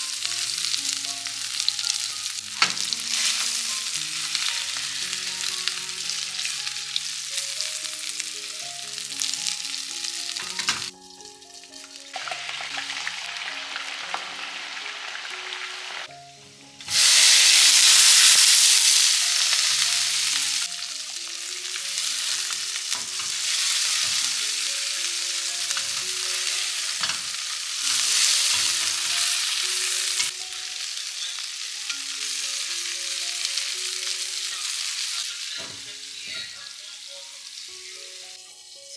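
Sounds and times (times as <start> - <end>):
food sizzling in hot oil: 0.0 - 38.9
soft background music: 0.0 - 38.9.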